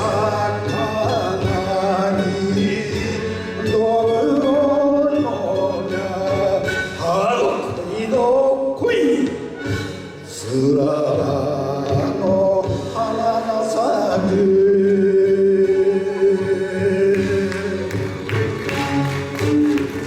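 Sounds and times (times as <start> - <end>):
man singing with music: 0.0 - 20.0.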